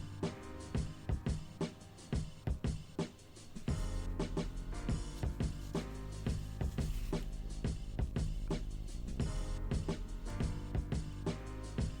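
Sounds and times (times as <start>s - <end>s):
background music with drums and bass: 0.0s - 12.0s.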